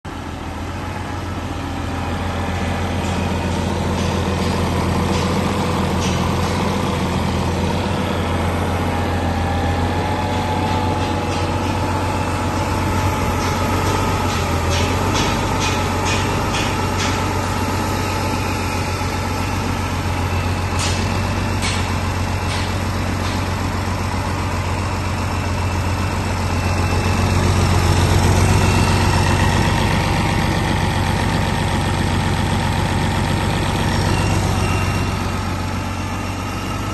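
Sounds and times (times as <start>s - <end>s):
diesel engine idling: 0.1s - 36.9s.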